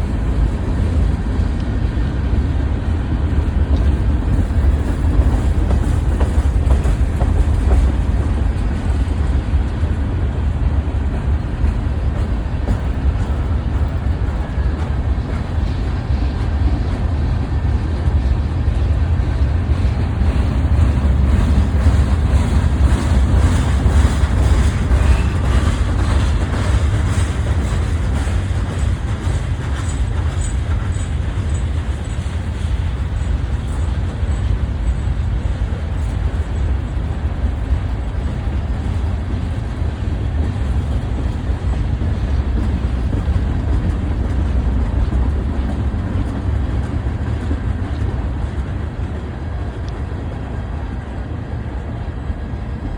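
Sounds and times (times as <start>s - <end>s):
freight train rumbling: 0.0s - 52.9s.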